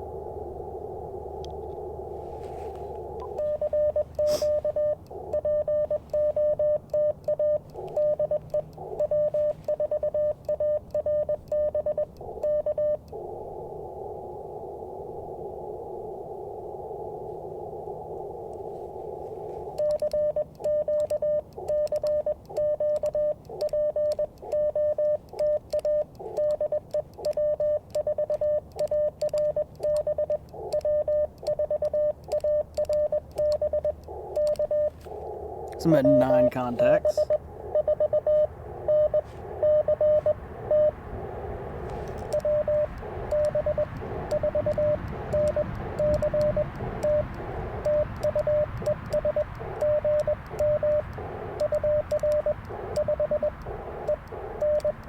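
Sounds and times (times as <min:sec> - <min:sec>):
receiver hiss: 0:00.0 - 0:55.0
morse code beeps: 0:02.5 - 0:13.0, 0:19.4 - 0:55.0.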